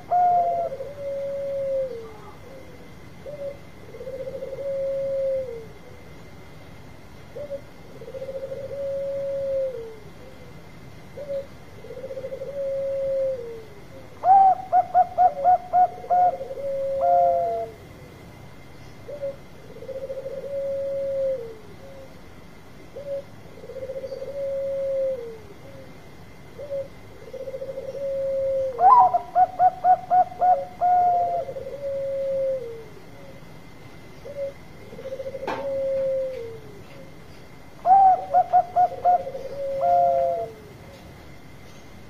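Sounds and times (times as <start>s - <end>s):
dove cooing: 0.0s - 6.0s, 7.3s - 18.2s, 19.0s - 22.2s, 22.9s - 33.5s, 34.2s - 41.0s.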